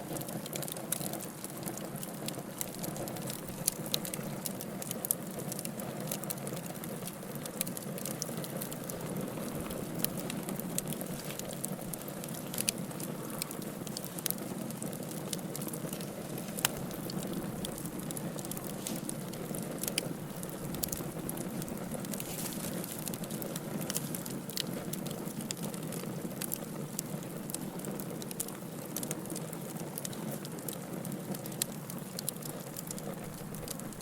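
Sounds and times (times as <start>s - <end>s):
fire crackling and popping: 0.0s - 34.0s
flames hissing and rumbling: 0.0s - 34.0s.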